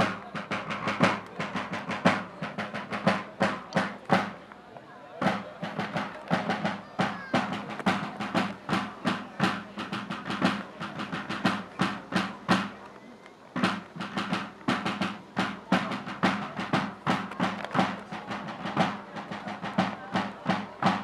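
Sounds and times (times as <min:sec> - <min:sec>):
field drum strokes and rolls: 0:00.0 - 0:21.0.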